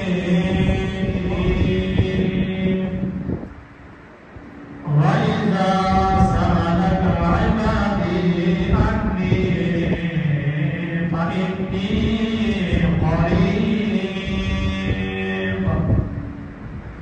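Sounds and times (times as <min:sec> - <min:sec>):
man chanting into a microphone: 0:00.0 - 0:03.4, 0:04.8 - 0:16.3.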